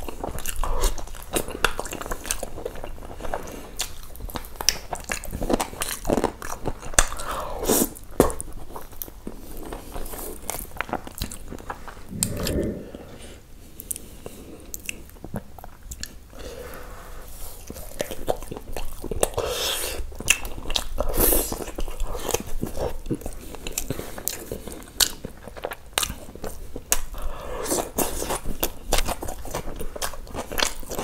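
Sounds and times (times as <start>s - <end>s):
close chewing and mouth sounds: 0.0s - 12.8s, 13.7s - 31.0s.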